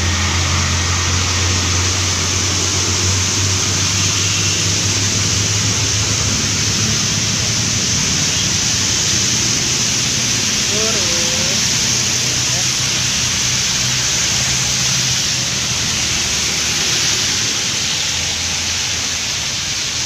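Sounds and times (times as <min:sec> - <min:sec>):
truck engine droning: 0:00.0 - 0:19.7
heavy rain hissing: 0:00.0 - 0:20.0.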